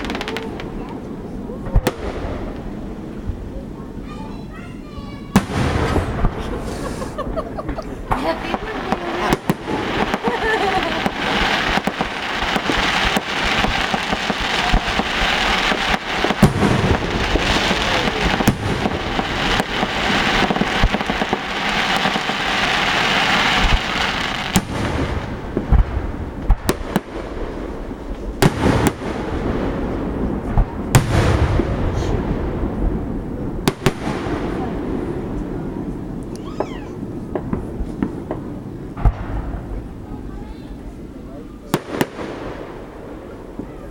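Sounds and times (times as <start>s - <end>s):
deep firework booms: 0.0s - 43.9s
fireworks crackling: 0.0s - 43.9s.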